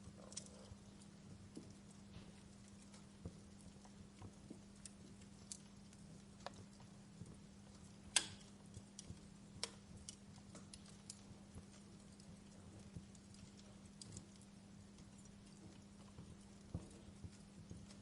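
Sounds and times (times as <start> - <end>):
faint low hum: 0.0 - 18.0
wood fire crackling: 0.0 - 18.0.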